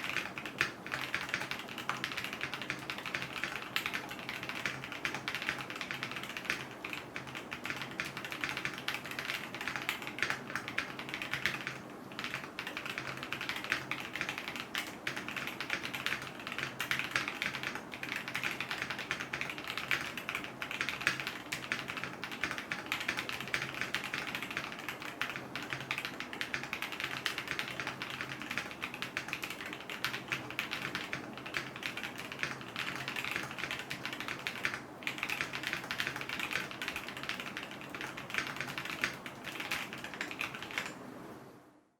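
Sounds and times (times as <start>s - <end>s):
mechanical keyboard typing: 0.0s - 41.0s.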